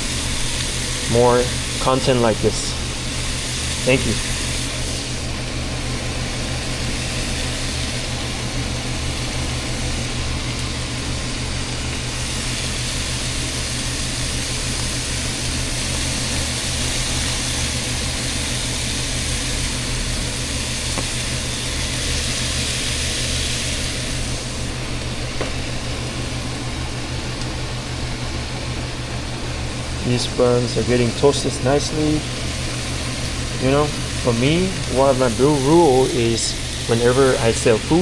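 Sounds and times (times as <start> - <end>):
buns sizzling on a griddle: 0.0 - 24.6, 30.2 - 38.0
exhaust fan humming: 0.0 - 38.0.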